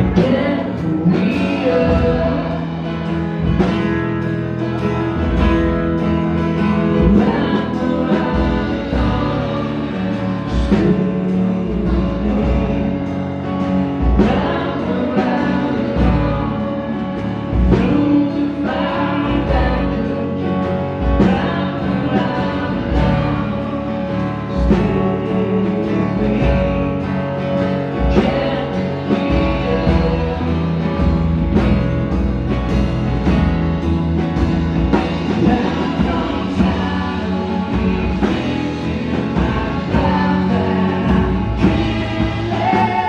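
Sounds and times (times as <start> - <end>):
person singing: 0.0 - 3.9, 4.8 - 31.8, 34.9 - 43.0
drums: 0.0 - 43.0
guitar: 0.0 - 43.0.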